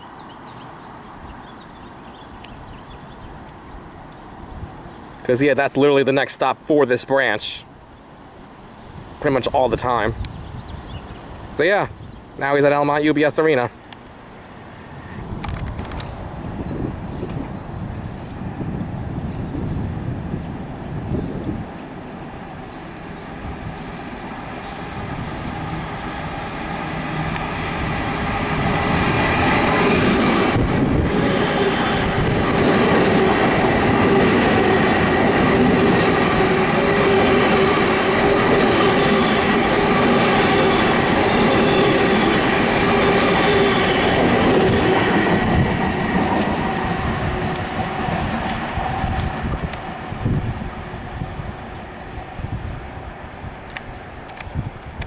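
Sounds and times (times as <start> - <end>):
train passing: 0.0 - 55.0.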